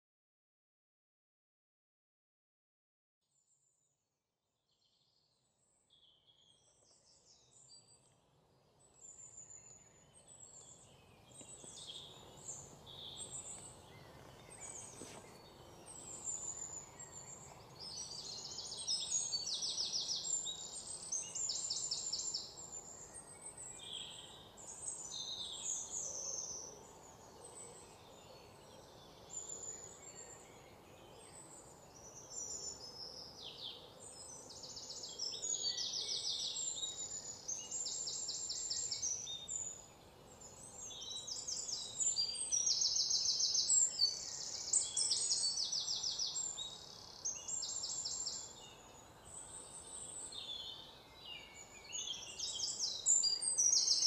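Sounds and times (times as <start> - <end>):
small birds chirping and trilling: 4.7 - 54.0
low background hiss: 5.2 - 54.0.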